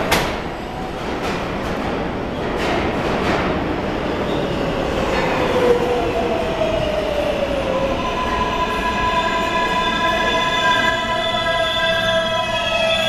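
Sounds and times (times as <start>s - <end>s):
train wheels rumbling on rail: 0.0s - 12.9s.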